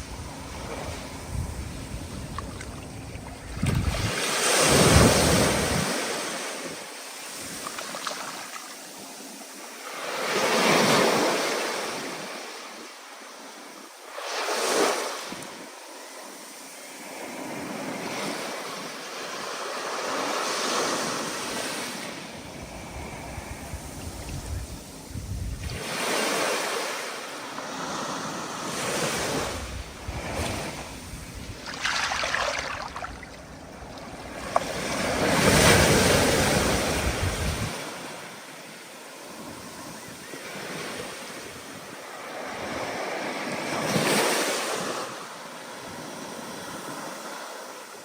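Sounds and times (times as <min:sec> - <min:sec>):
waves breaking: 0:00.0 - 0:47.8.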